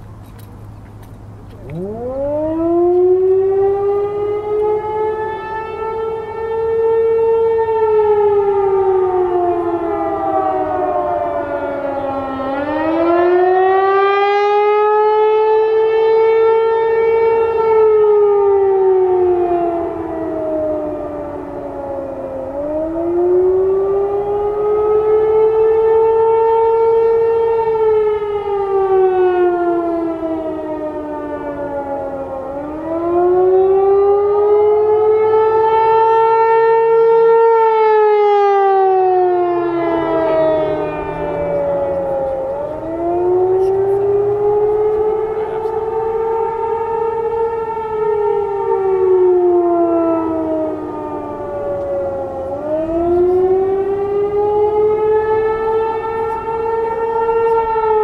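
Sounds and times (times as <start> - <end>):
outdoor warning siren wailing: 0.0 - 58.0.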